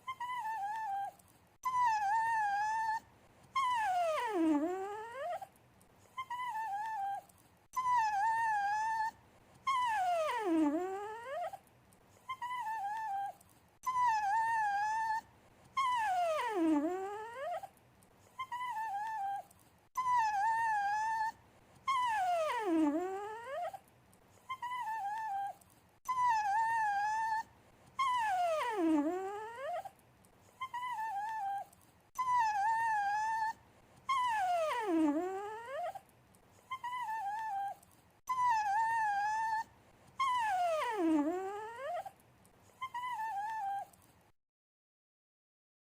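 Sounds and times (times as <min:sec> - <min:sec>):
dog whining: 0:00.0 - 0:44.1.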